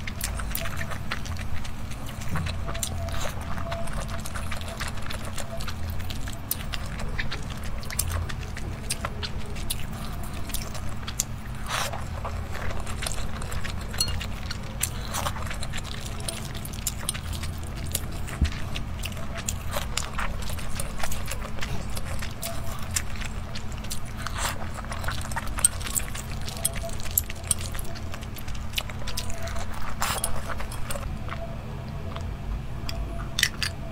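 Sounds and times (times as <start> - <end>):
wet chewing and mouth sounds: 0.0 - 33.9.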